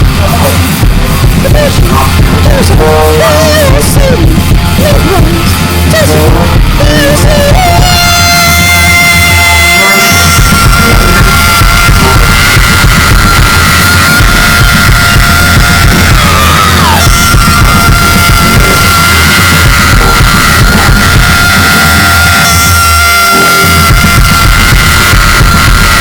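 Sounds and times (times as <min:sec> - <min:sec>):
rock band music: 0:00.0 - 0:26.0
sustained high tone: 0:01.5 - 0:26.0.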